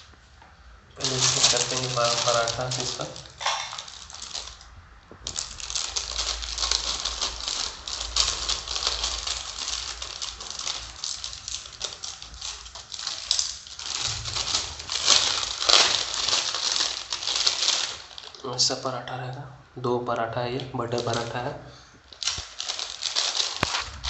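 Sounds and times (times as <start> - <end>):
food wrapping crinkling and rustling: 1.0 - 19.3, 20.6 - 24.0.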